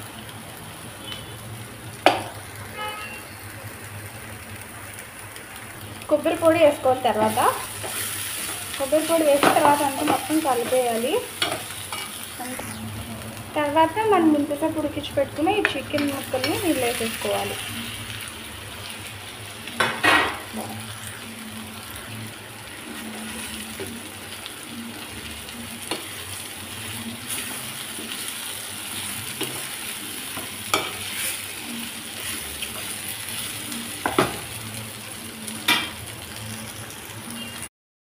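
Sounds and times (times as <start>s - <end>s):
curry sizzling in a pot: 0.0s - 37.7s.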